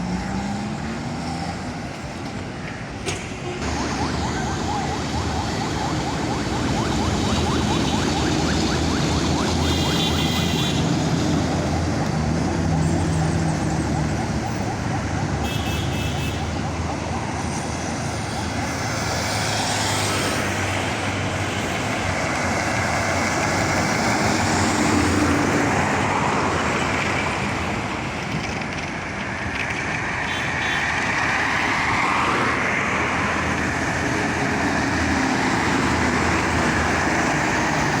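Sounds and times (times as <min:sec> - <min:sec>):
bus and truck engines running: 0:00.0 - 0:38.0
tyres on the road: 0:00.0 - 0:38.0.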